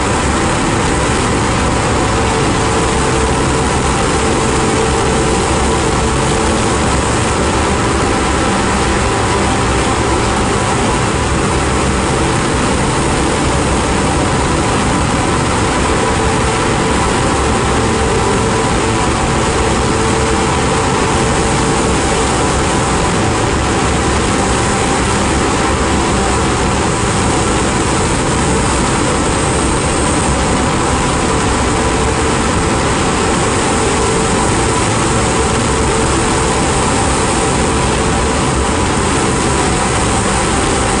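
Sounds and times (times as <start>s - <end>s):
drone noise music: 0.0s - 41.0s.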